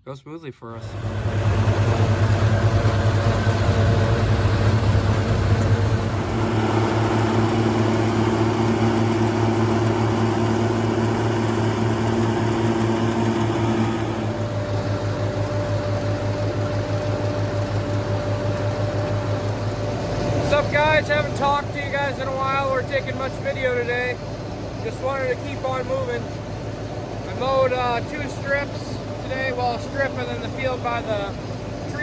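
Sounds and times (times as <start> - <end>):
tractor engine running: 0.7 - 32.0.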